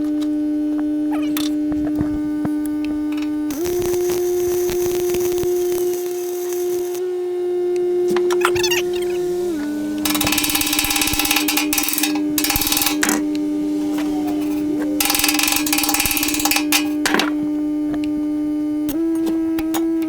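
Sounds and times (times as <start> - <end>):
angle grinder grinding metal: 2.8 - 7.4, 8.1 - 20.0.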